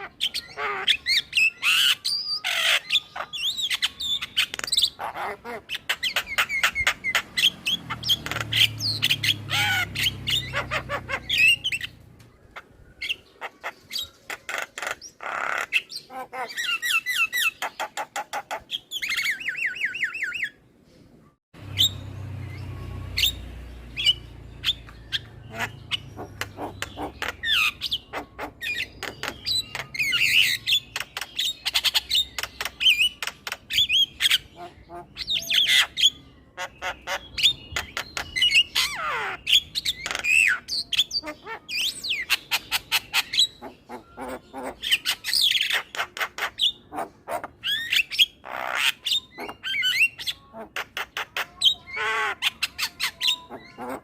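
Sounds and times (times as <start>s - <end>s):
myna bird chattering: 0.0s - 20.6s, 21.6s - 54.0s.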